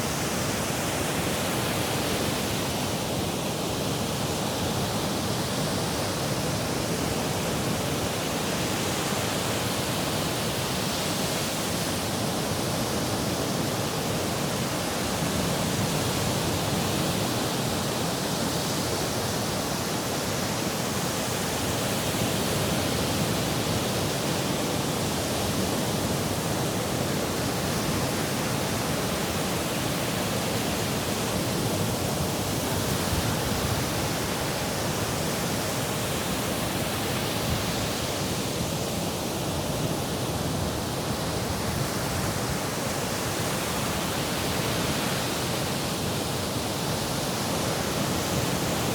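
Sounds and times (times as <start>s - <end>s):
sea surf waves: 0.0s - 48.9s.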